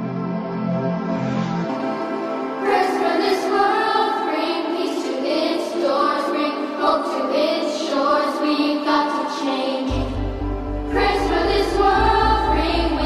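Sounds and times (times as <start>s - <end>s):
slow pop song: 0.9s - 13.0s.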